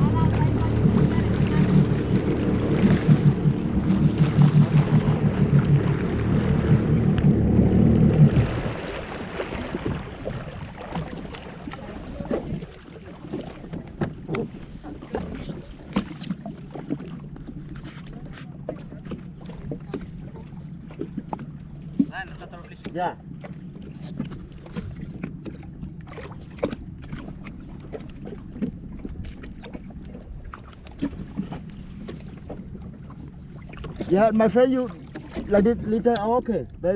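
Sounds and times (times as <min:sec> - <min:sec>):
jet ski engine running: 0:00.0 - 0:36.9
water lapping and splashing: 0:00.0 - 0:36.9.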